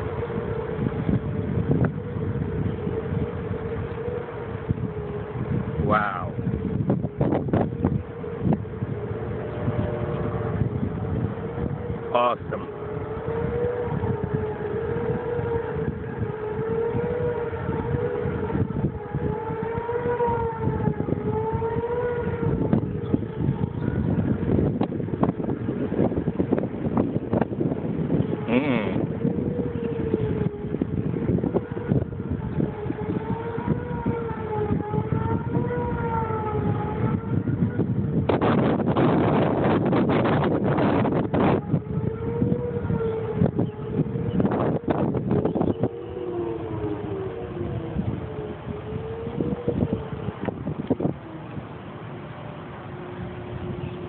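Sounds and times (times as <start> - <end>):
warning siren wavering tone: 0.0 - 54.0
wind on microphone: 0.0 - 54.0.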